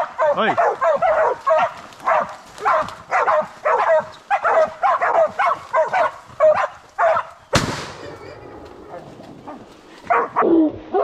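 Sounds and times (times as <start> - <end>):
dogs barking rapidly: 0.0 - 7.4, 8.8 - 10.4.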